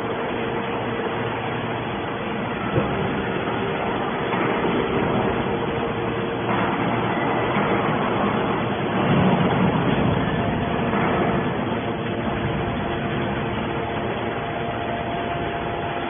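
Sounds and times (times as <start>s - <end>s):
baler machine hum and rumble: 0.0s - 16.0s.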